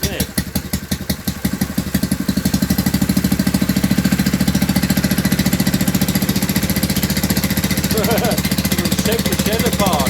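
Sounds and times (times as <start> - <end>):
plate compactor engine running: 0.0 - 10.0.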